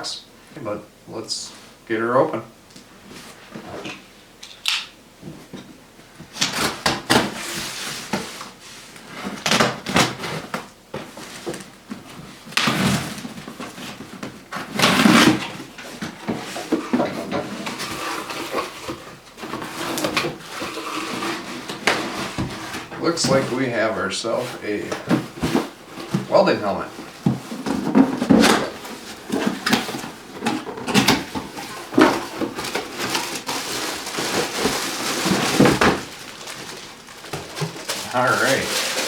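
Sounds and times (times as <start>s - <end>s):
cardboard ripping and rustling: 6.3s - 39.0s.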